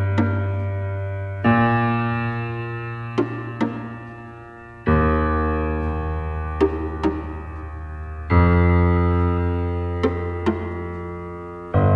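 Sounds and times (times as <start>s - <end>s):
slow keyboard chords: 0.0s - 11.9s.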